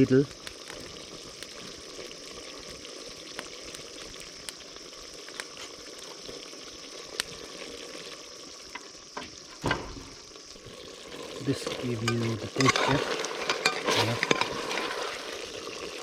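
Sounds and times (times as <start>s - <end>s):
curry simmering and sizzling: 0.0s - 16.0s.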